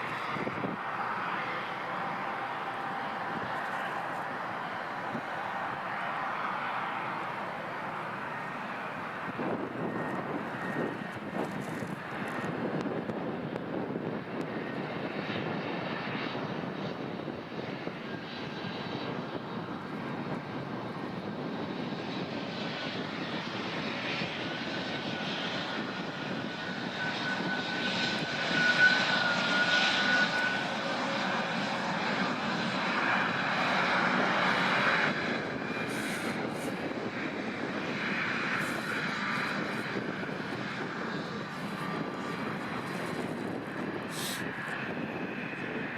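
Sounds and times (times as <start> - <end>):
airliner engines running: 0.0 - 45.9.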